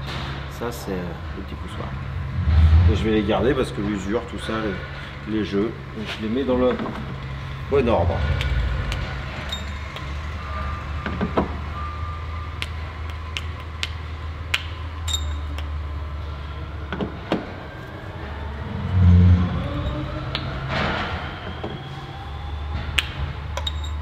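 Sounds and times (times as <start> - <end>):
low hum: 1.2 - 13.4, 15.3 - 23.4.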